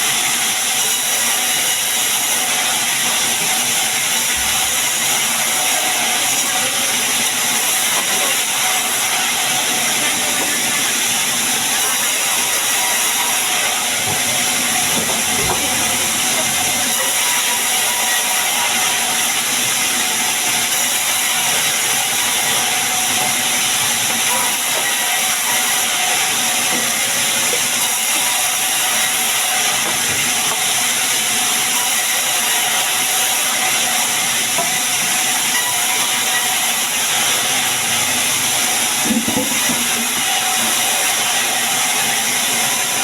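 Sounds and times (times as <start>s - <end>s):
sawmill saw cutting wood: 0.0s - 43.0s.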